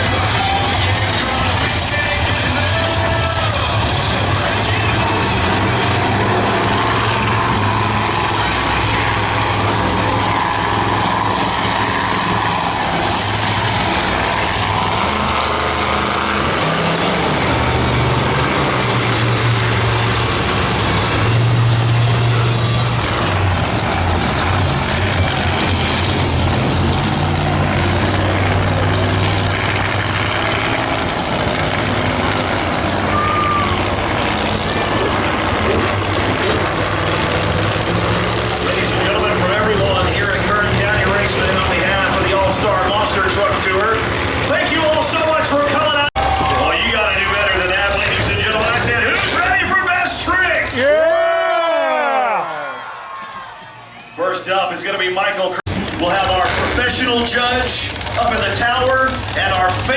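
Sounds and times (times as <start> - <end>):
monster truck engines revving: 0.0 - 59.9.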